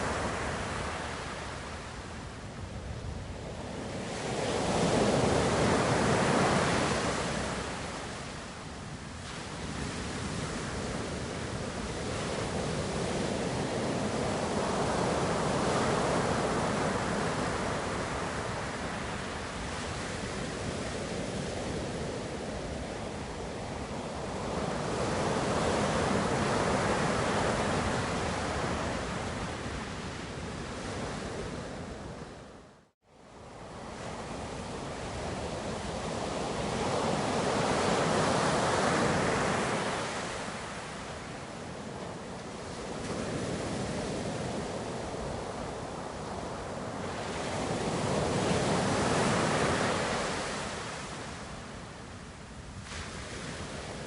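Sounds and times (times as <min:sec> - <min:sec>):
ocean surf washing in: 0:00.0 - 0:08.6, 0:09.2 - 0:32.5, 0:33.3 - 0:54.0.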